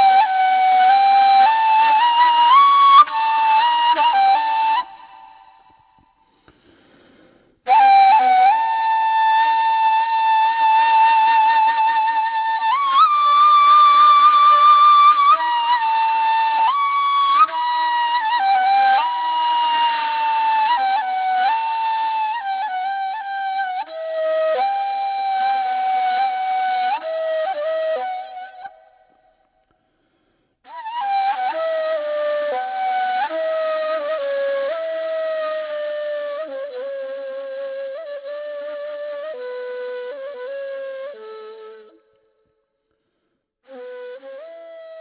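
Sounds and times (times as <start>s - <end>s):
solo flute melody: 0.0s - 6.8s, 7.6s - 29.8s, 30.7s - 42.8s, 43.6s - 45.0s.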